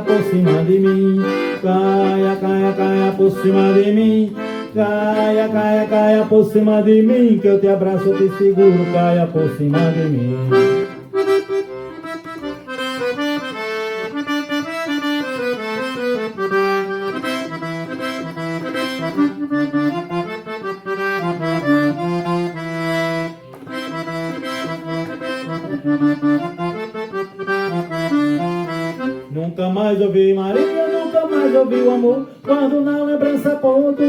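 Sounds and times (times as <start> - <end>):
accordion playing: 0.0 - 34.0.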